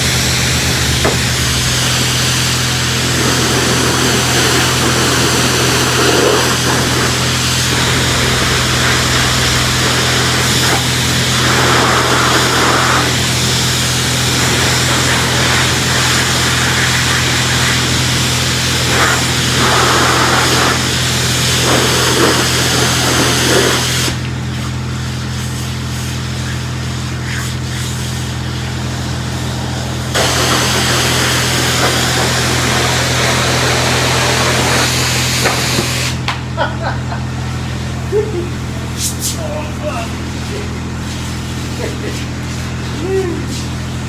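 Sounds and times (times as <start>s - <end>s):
pressure washer motor hum: 0.0s - 44.0s
water spraying: 0.0s - 44.0s.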